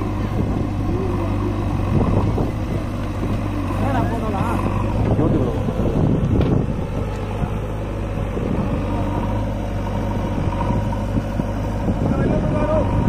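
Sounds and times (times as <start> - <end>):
diesel engines idling: 0.0 - 13.0.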